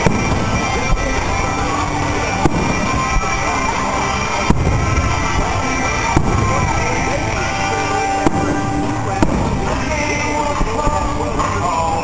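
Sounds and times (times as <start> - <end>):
fireworks bursting: 0.0 - 12.0
loud music: 0.0 - 12.0.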